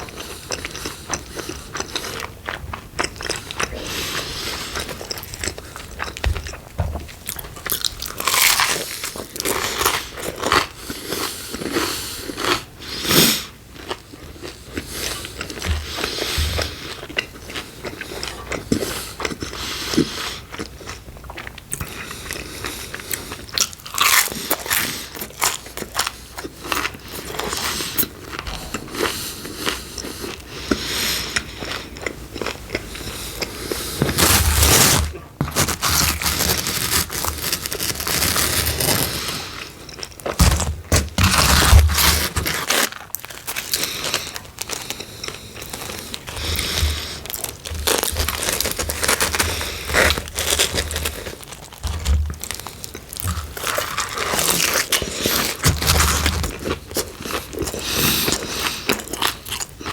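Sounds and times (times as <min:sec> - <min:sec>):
wet chewing: 0:00.0 - 0:12.7, 0:13.7 - 0:59.9
crunchy bites of pizza crust: 0:07.2 - 0:59.9.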